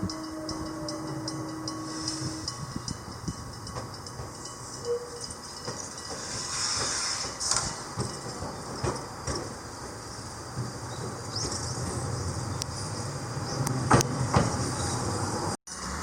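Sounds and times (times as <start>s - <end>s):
train running along track: 0.0s - 16.0s.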